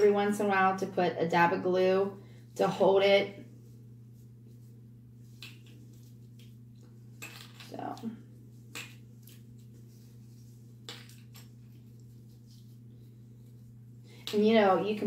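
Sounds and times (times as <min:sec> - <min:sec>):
steady low hum: 0:00.0 - 0:15.0
twine rustling: 0:02.4 - 0:15.0.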